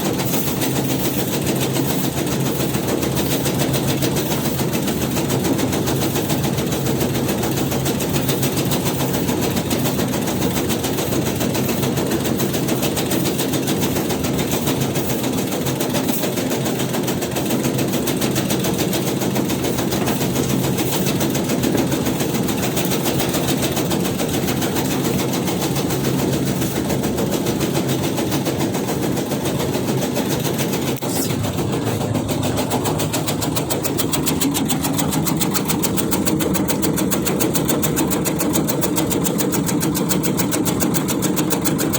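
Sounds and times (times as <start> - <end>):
shredding machine clatter: 0.0 - 41.9.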